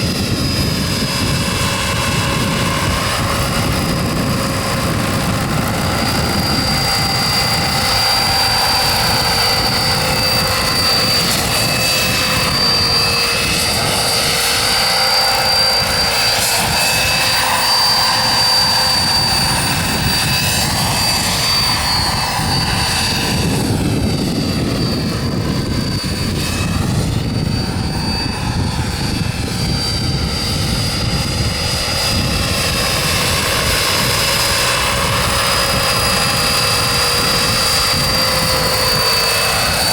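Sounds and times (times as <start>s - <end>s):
gas turbine whining: 0.0s - 39.9s.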